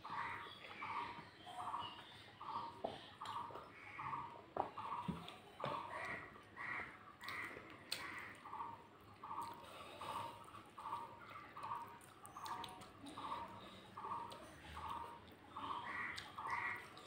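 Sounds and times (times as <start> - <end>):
animal calling: 0.0 - 17.0
soft eating clicks: 2.0 - 17.0.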